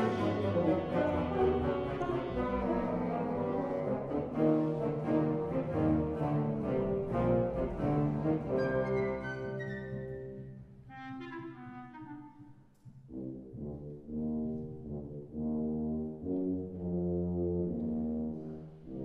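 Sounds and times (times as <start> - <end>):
brass chords: 0.0 - 12.5, 13.1 - 19.0.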